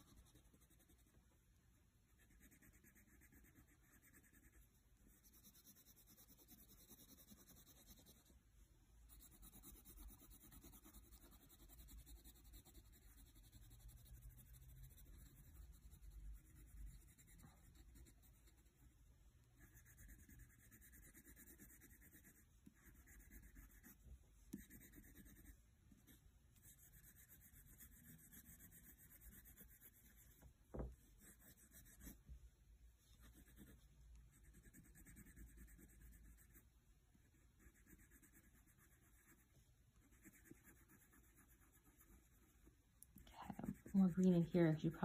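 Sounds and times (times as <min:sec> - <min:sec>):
crayon scratching on paper: 0:00.0 - 0:01.2, 0:02.1 - 0:08.3, 0:09.1 - 0:18.8, 0:19.6 - 0:30.4, 0:31.0 - 0:32.2, 0:33.1 - 0:36.6, 0:37.3 - 0:42.6, 0:43.5 - 0:45.0.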